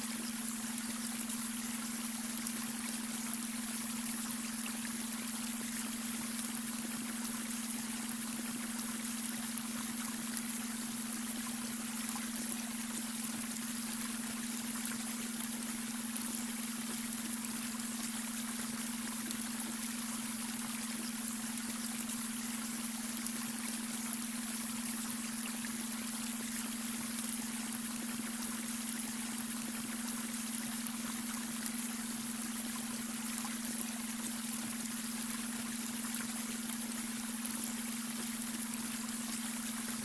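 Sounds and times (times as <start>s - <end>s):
brook water trickling over stones: 0.0s - 40.0s.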